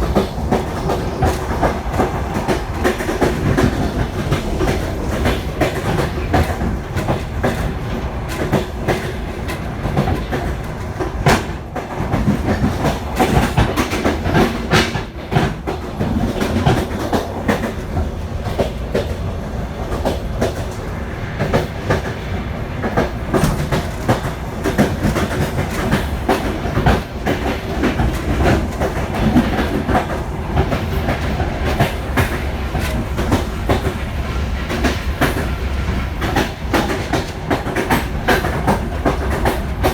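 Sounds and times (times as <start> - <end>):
train rumbling on rails: 0.0 - 39.9
wheels clacking over rail joints: 0.0 - 39.9.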